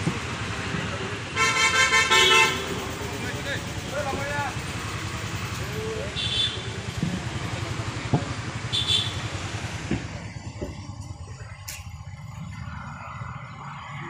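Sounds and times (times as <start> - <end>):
road and traffic hiss: 0.0 - 14.0.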